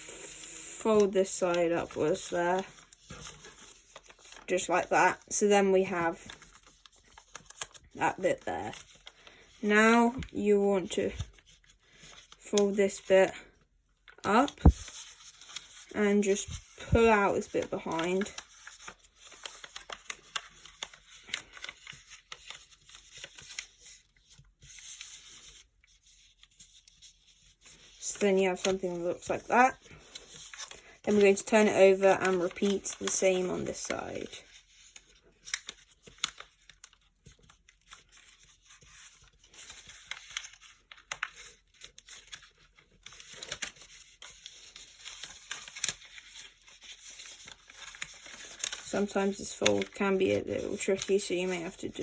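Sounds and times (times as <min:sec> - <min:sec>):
paper rustling and crinkling: 0:00.8 - 0:52.0.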